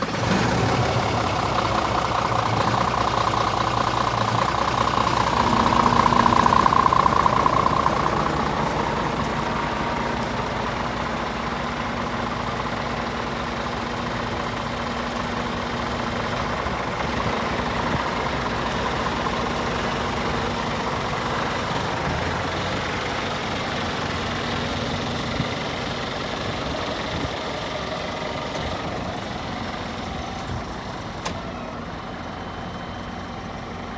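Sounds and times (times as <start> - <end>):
truck diesel engine running: 0.0 - 33.9.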